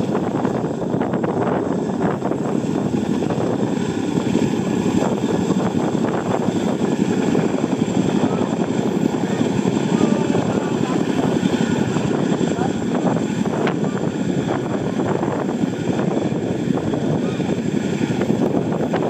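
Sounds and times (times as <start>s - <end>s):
helicopter rotors droning: 0.0s - 19.0s.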